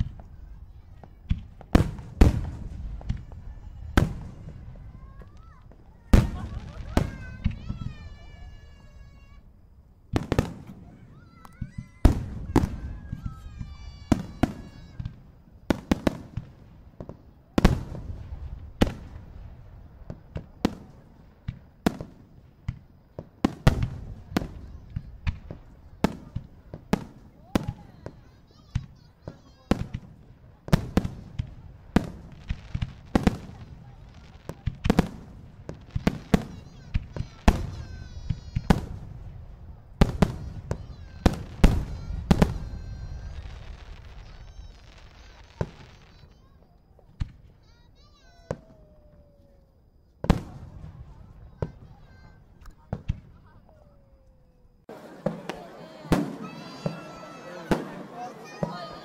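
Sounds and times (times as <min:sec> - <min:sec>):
firework shells bursting: 0:00.0 - 0:59.0
heavy firework booms: 0:00.0 - 0:59.0.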